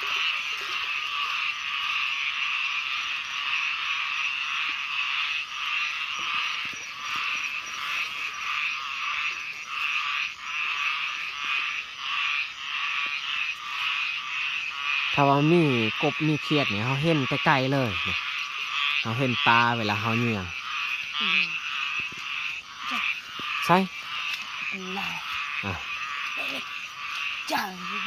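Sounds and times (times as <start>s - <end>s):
chorus of frogs calling: 0.0s - 28.0s
pulsing frog calls: 0.0s - 28.0s.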